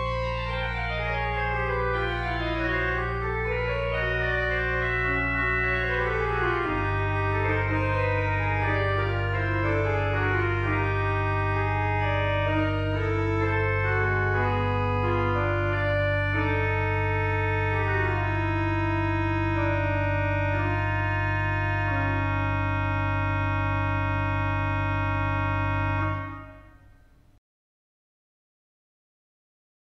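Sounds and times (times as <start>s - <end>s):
pipe organ playing: 0.0s - 27.0s.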